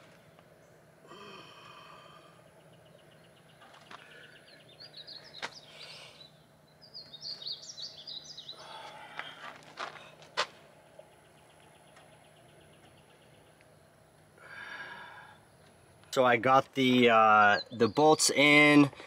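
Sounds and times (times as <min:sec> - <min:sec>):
faint low hum: 0:00.0 - 0:19.0
birds chirping and singing: 0:01.6 - 0:19.0.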